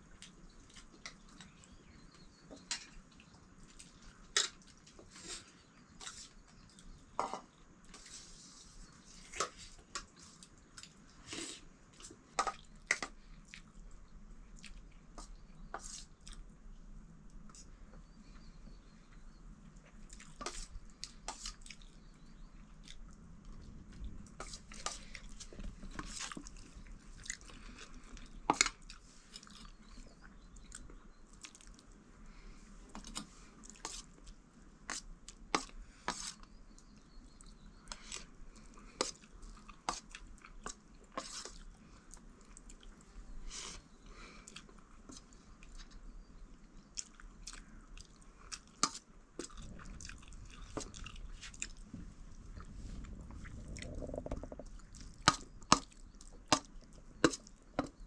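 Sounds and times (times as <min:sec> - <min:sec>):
chewing and crunching: 0:00.0 - 0:07.6, 0:09.1 - 0:16.5, 0:19.1 - 0:32.0, 0:32.9 - 0:58.0.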